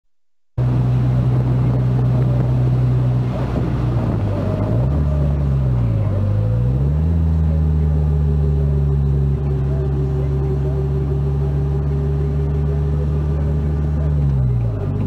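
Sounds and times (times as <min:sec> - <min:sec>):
vehicle engine running: 0:00.6 - 0:15.0.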